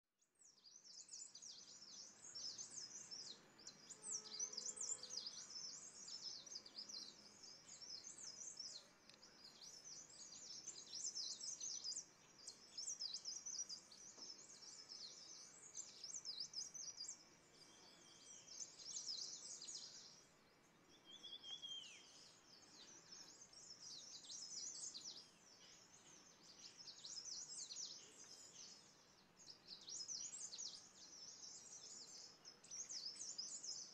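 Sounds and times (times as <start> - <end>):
small birds twittering: 0.2 - 33.9.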